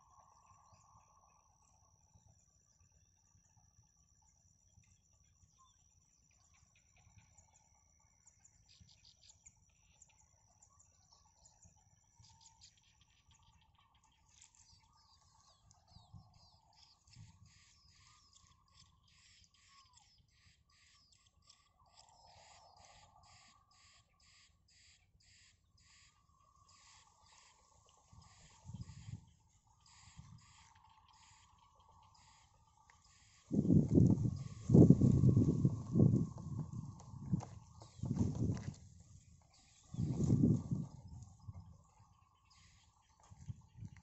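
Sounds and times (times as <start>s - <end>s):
high insect trill: 0.0s - 44.0s
nestling begging chirps: 2.7s - 44.0s.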